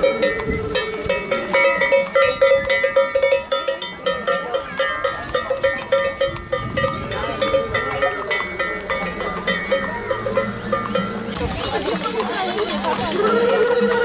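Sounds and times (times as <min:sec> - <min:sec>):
livestock bells clanking: 0:00.0 - 0:14.0.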